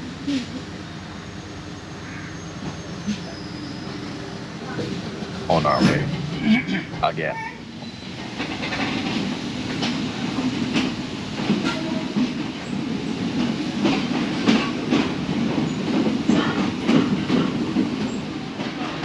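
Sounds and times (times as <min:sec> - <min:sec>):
train carriage rumbling on rails: 0:00.0 - 0:19.0.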